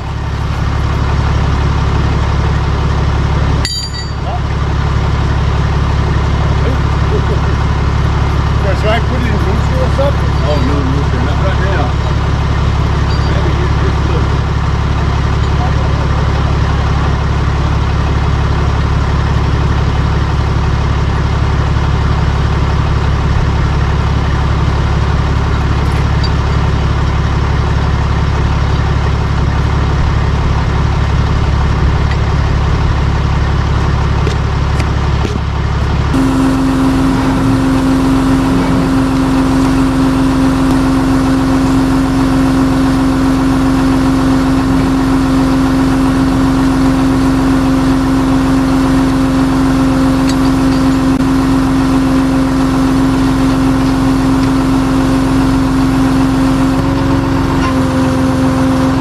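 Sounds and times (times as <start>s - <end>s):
higher-pitched hum: 0.0s - 18.9s, 30.6s - 59.0s
truck engine idling: 0.0s - 59.0s.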